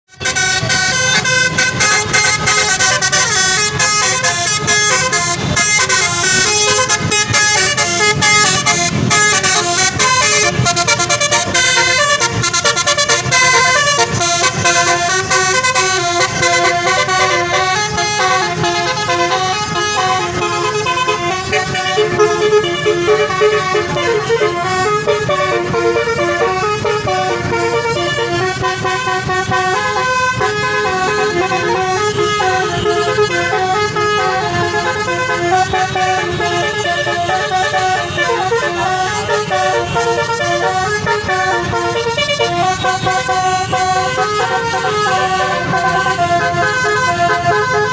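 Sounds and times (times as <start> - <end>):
musical bus horn: 0.1 - 47.9.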